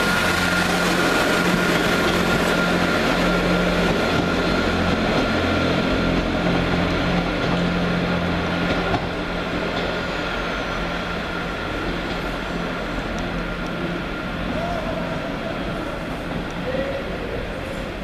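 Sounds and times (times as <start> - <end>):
diesel train engines droning: 0.0 - 18.0.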